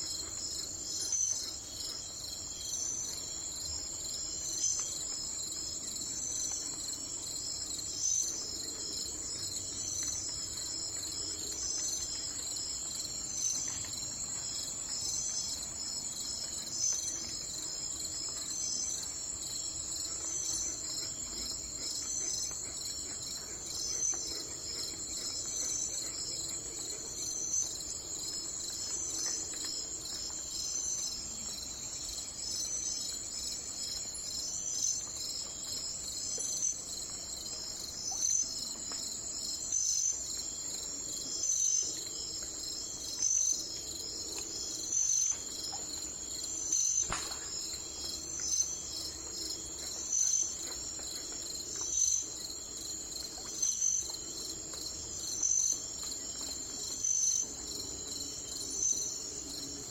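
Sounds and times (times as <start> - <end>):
crickets chirring: 0.0 - 59.9
louder cricket chirp: 0.0 - 59.9.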